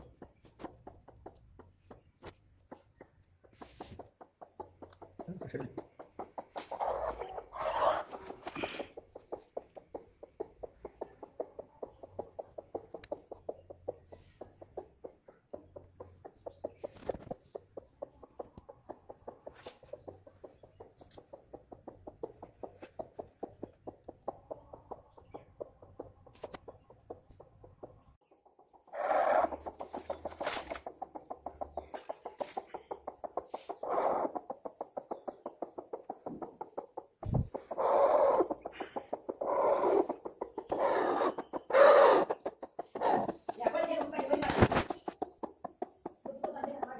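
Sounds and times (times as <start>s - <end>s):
hen clucking: 0.0s - 46.9s.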